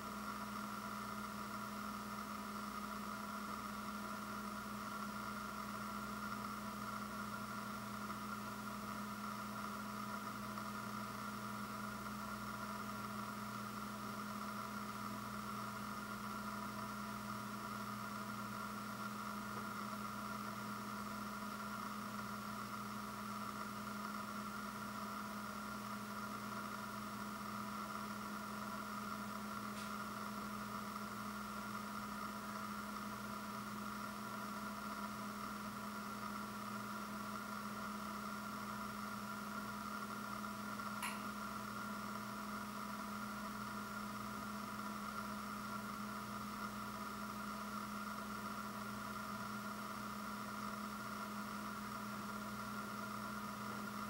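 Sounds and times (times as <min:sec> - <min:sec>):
background hum and hiss: 0:00.0 - 0:54.0.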